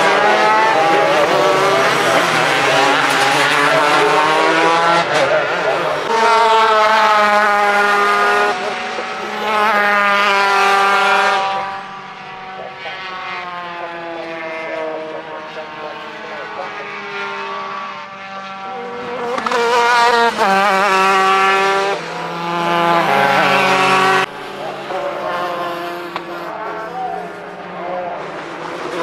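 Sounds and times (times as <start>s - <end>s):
kart engines at high revs: 0.0s - 29.0s.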